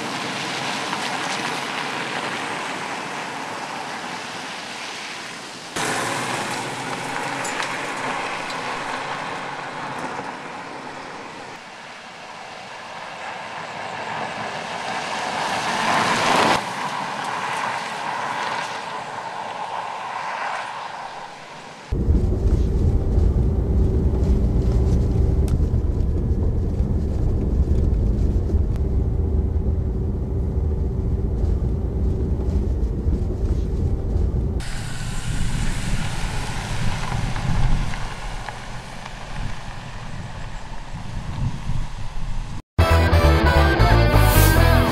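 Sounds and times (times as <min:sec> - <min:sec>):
cabin engine and road rumble: 0:05.8 - 0:15.2, 0:15.8 - 0:44.9
car engine passing by: 0:05.8 - 0:40.9, 0:43.6 - 0:44.9.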